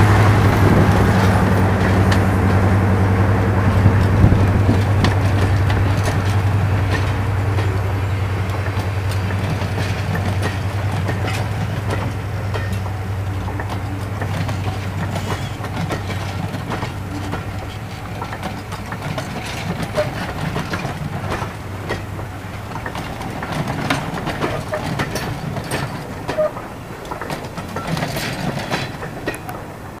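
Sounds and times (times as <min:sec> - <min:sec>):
train wheels clicking over rail joints: 0:00.0 - 0:30.0.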